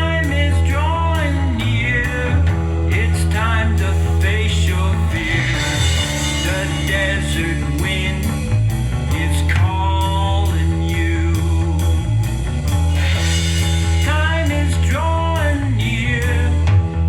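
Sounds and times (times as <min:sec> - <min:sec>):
rock song with singing: 0:00.0 - 0:17.0.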